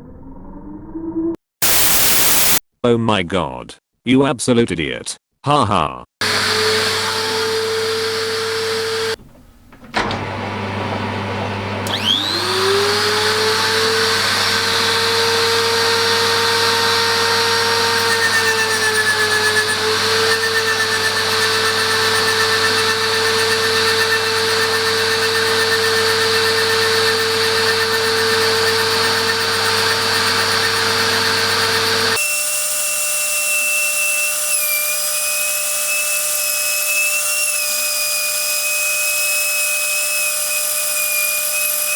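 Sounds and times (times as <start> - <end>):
grinder motor whining: 6.2 - 41.9.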